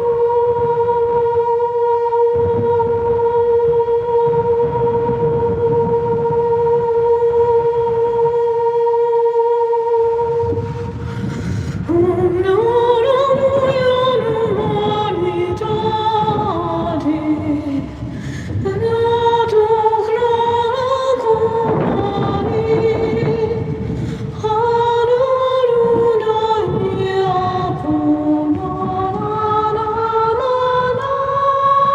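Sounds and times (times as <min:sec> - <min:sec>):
wordless a cappella singing: 0:00.0 - 0:31.9.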